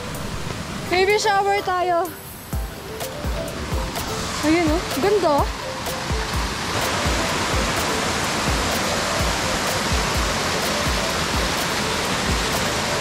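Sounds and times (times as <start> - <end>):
waterfall rushing over rock: 0.0 - 13.0
background music with beat: 1.5 - 13.0.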